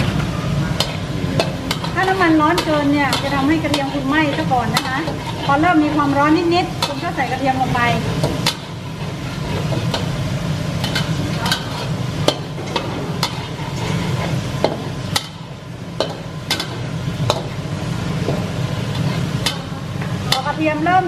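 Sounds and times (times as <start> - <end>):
metal spatula scraping a wok: 0.0 - 10.2, 10.8 - 17.7, 18.4 - 20.6
garlic sizzling in oil: 0.0 - 21.0.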